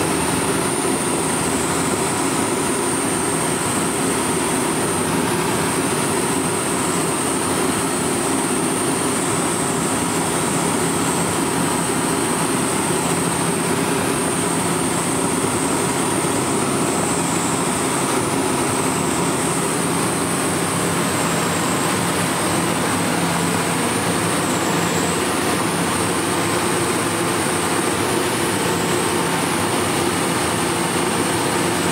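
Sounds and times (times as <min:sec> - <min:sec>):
aircraft engine and propeller drone: 0:00.0 - 0:31.9
thin high whine: 0:03.6 - 0:31.9.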